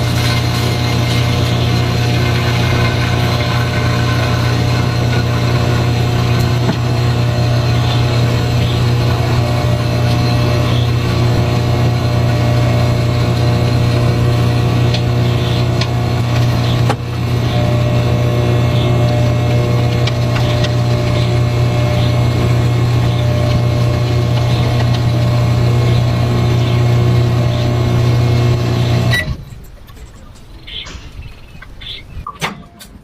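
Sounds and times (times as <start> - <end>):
microwave oven humming: 0.0 - 29.5.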